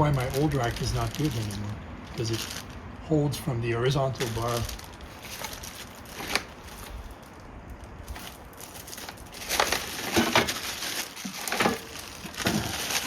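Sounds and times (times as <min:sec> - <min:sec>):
packaging rustling: 0:00.0 - 0:02.8, 0:04.1 - 0:13.0.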